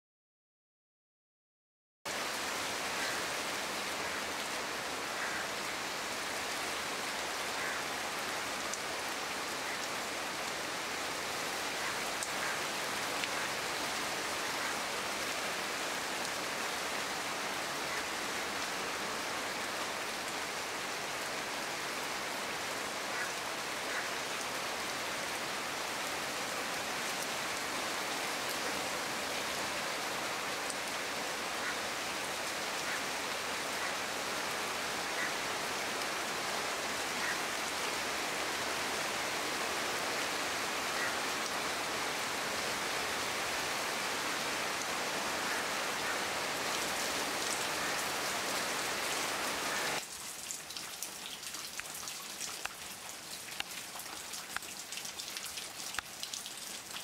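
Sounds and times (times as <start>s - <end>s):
rain on leaves: 2.1s - 57.0s.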